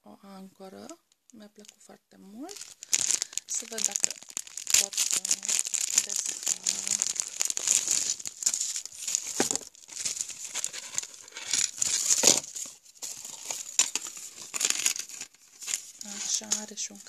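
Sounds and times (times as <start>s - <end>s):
plastic packaging crinkling: 2.4s - 17.0s.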